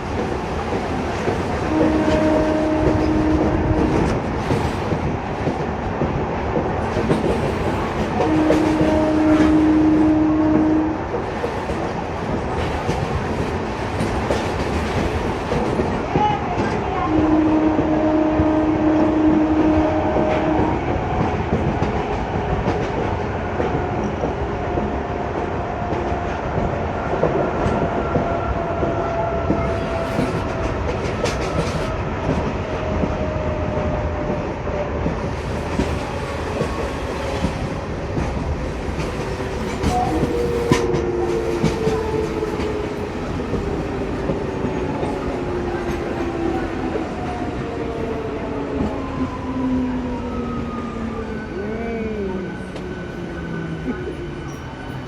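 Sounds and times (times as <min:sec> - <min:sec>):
clickety-clack of rail joints: 0:00.0 - 0:50.9
train wheels rumbling on rails: 0:00.0 - 0:55.0.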